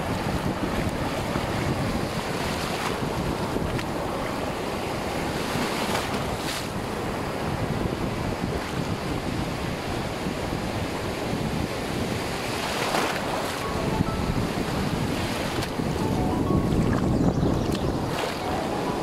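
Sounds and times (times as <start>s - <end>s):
small waves breaking: 0.0s - 7.7s, 9.8s - 17.0s, 18.0s - 19.0s
wind buffeting microphone: 0.0s - 19.0s.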